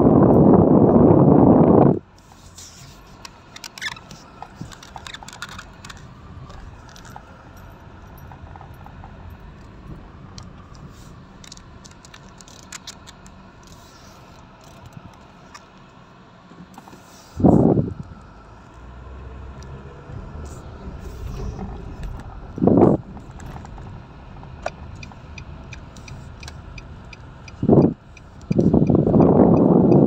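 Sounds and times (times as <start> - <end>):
car engine and tyres rumbling: 0.0 - 30.0
light clicks and rattles: 2.2 - 17.2, 19.5 - 29.3.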